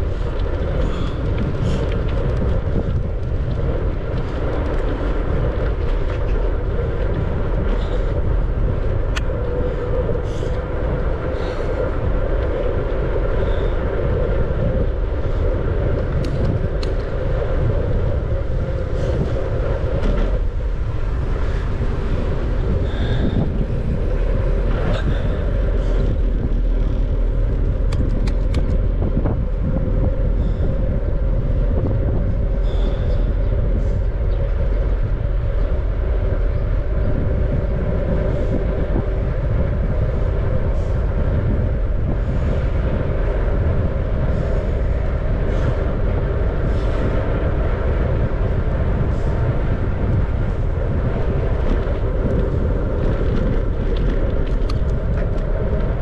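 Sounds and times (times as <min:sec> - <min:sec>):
bicycle rolling noise: 0:00.0 - 0:56.0
wind rush over microphone: 0:00.0 - 0:56.0.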